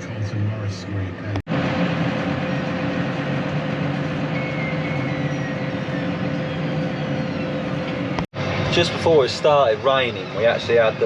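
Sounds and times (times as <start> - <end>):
farm machine engine droning: 0.0 - 11.0
steady hum: 0.0 - 11.0.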